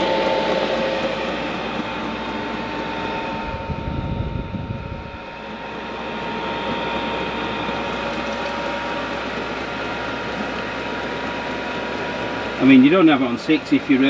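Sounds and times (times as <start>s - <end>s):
diesel air heater whirring drone: 0.0s - 14.0s
thin constant whine: 0.0s - 14.0s.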